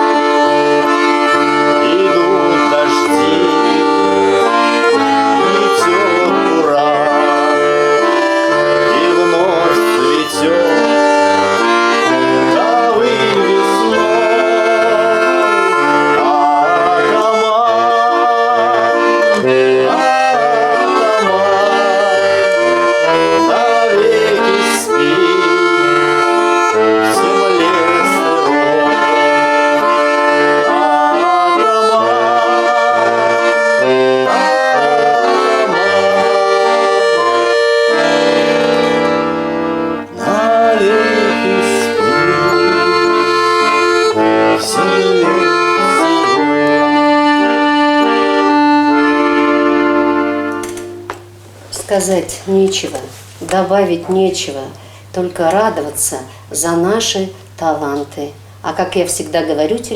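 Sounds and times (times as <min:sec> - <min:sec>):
accordion playing folk tune: 0:00.0 - 0:59.9.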